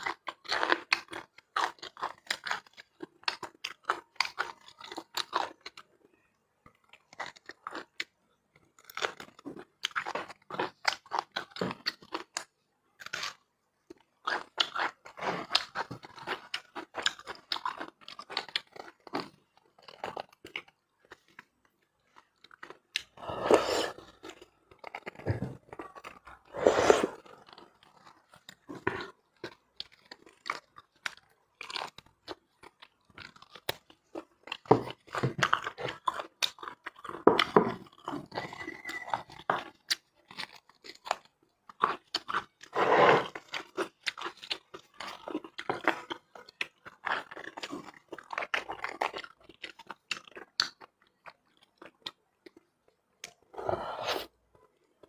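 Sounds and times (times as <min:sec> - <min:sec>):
close-miked chewing: 0:00.0 - 0:55.0.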